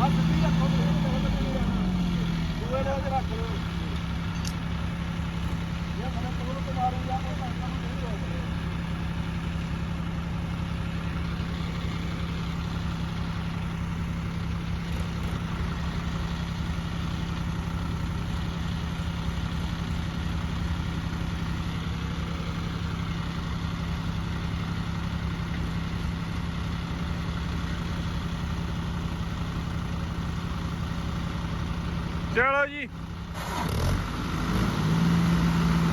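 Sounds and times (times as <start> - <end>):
diesel tractor engine running: 0.0 - 35.9.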